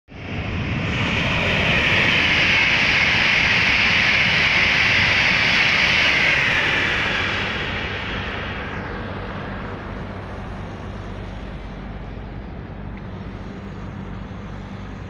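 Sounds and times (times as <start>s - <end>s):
high-speed train rushing past: 0.2s - 15.0s.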